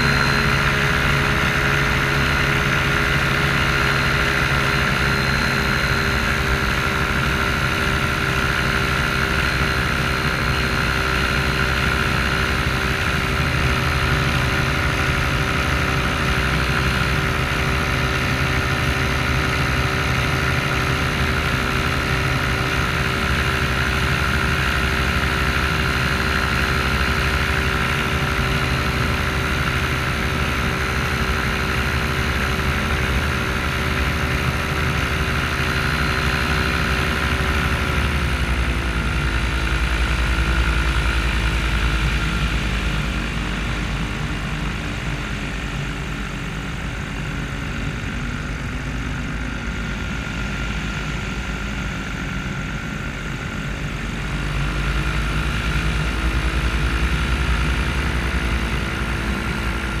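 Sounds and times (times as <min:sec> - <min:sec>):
paramotor engine and propeller: 0:00.0 - 1:00.0.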